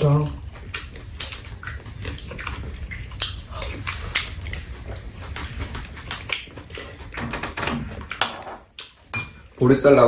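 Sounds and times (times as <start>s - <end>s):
wet chewing and lip-smacking: 0.0s - 7.2s, 7.8s - 9.5s.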